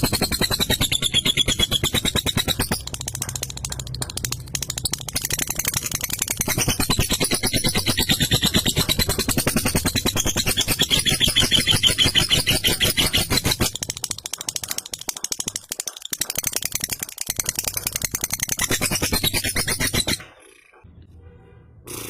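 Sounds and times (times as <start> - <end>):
lovebird rattling chatter: 0.0 - 20.8.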